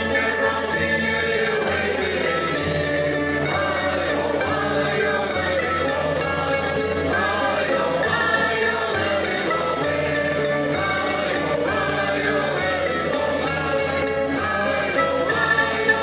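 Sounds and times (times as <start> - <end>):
choir singing: 0.0 - 16.0
strummed guitars and mandolin: 0.0 - 16.0.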